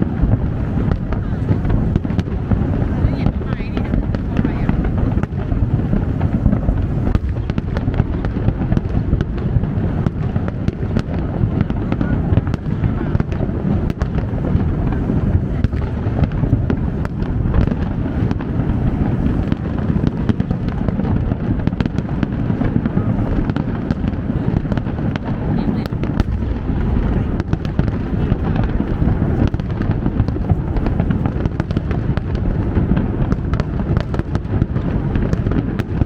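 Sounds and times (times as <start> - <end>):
fireworks booming: 0.0 - 36.0
fireworks cracking and popping: 0.0 - 36.0.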